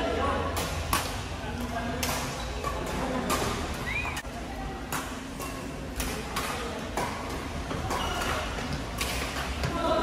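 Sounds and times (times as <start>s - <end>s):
background hum and chatter: 0.0s - 10.0s
rackets hitting shuttlecock: 0.5s - 9.8s.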